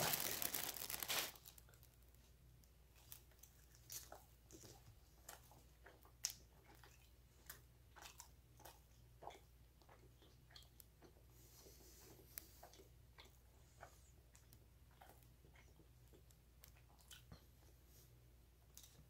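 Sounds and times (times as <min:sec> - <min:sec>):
faint chewing clicks: 0:02.6 - 0:17.8, 0:18.7 - 0:19.0.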